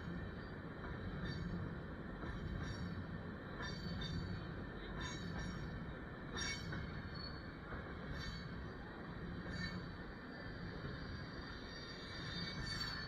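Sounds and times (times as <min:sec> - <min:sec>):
freight train rumbling past: 0:00.0 - 0:13.0
train wheels squealing: 0:00.0 - 0:13.0.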